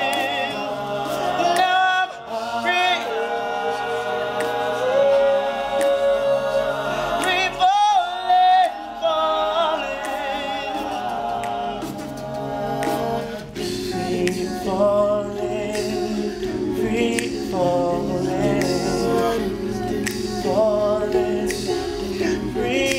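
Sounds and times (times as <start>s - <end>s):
male backing harmonies: 0.0s - 22.9s.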